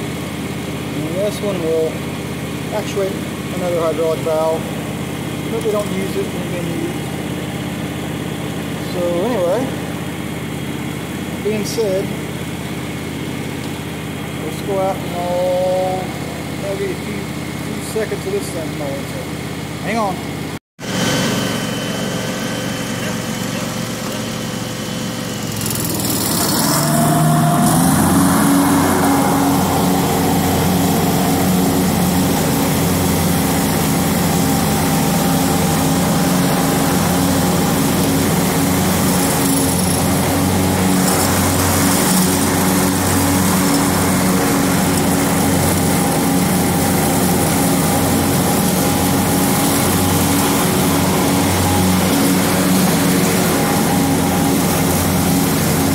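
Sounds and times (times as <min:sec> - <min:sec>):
lawn tractor engine revving: 0:00.0 - 0:55.9.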